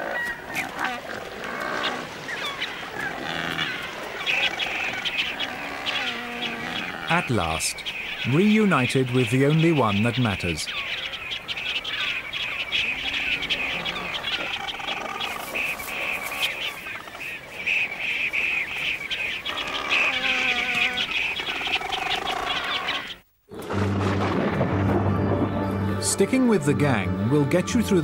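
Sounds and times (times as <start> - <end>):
low wavering bird calls: 0.0 - 23.3
colony of birds chirping: 0.0 - 28.0.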